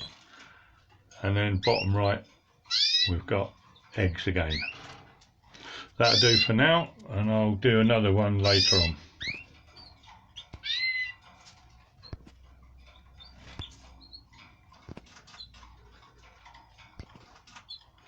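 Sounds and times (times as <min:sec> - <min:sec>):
canaries chirping: 0:00.0 - 0:18.0.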